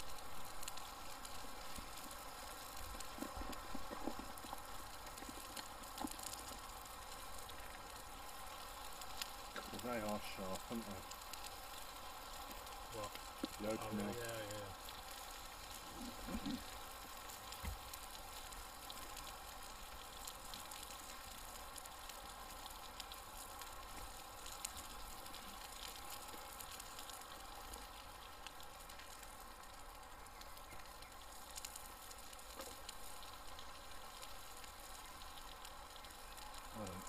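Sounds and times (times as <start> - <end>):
campfire crackles and pops: 0.0 - 37.0
meat sizzling in pans: 0.0 - 37.0.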